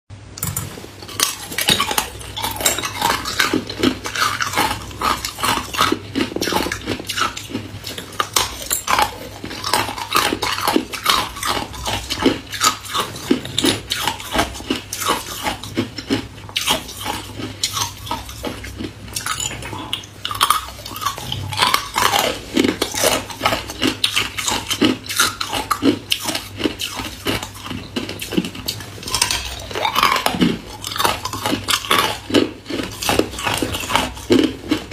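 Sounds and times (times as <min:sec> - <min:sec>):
ice cubes clinking in bowl: 0:00.4 - 0:34.9
ice crunching and cracking: 0:00.5 - 0:34.9.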